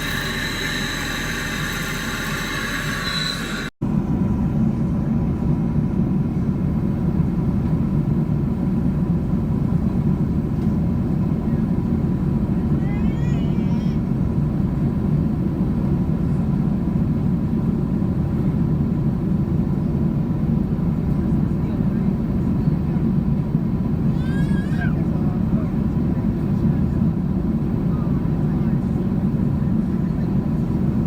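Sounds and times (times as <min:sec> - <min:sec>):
jet engine rumble in cabin: 0:00.8 - 0:31.0.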